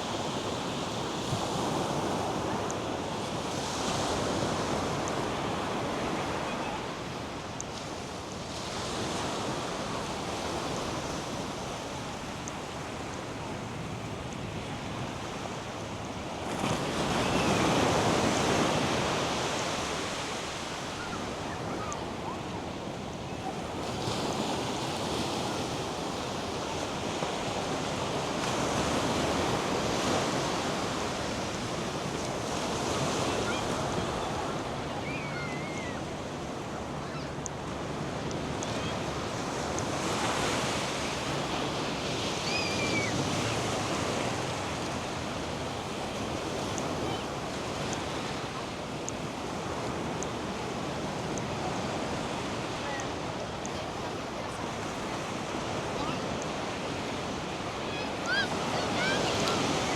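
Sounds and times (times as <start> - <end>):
surf breaking on a beach: 0.0 - 59.9
wind: 0.0 - 59.9.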